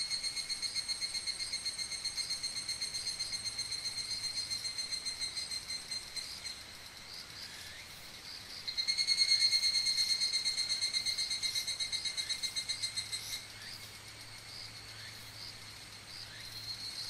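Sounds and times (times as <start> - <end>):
cicadas singing: 0.0 - 17.0.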